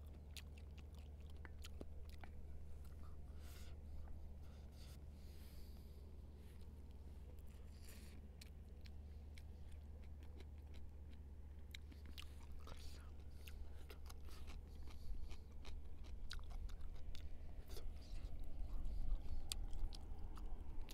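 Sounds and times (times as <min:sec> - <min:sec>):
person chewing: 0:00.0 - 0:03.7, 0:07.5 - 0:20.9
low hum: 0:00.0 - 0:20.9.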